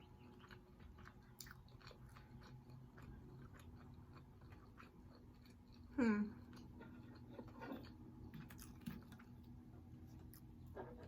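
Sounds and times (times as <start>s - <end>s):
chewing food with mouth clicks: 0.0s - 11.0s.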